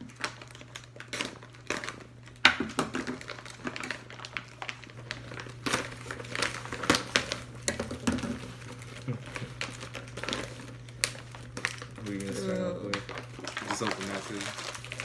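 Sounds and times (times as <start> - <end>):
plastic pouch crinkling: 0.0 - 15.0.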